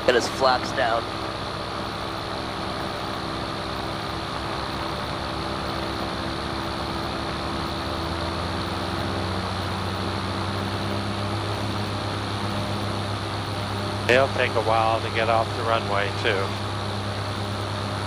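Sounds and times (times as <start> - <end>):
propeller aircraft engine idling: 0.0 - 18.0.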